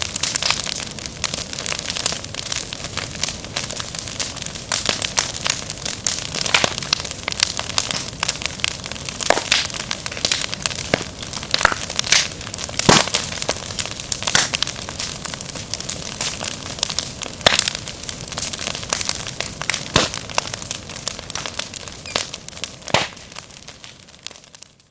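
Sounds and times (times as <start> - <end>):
fire crackling: 0.0 - 24.9.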